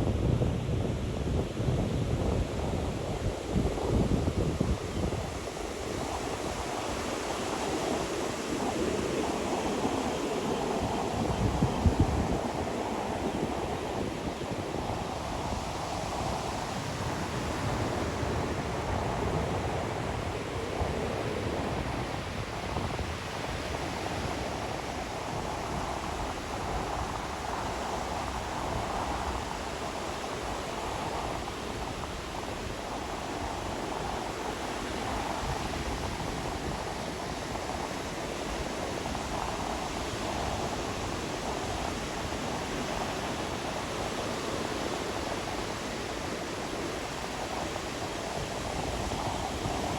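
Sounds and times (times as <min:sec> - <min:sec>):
surf washing onto beach: 0:00.9 - 0:49.9.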